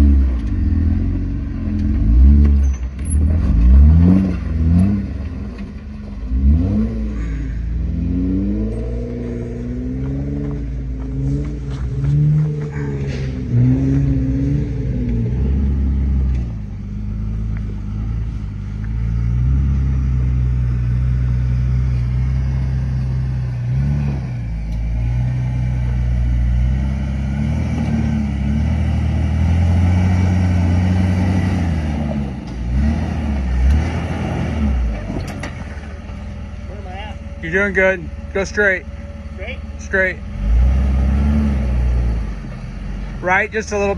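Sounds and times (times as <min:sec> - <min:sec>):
vehicle engine labouring: 0:00.0 - 0:43.9.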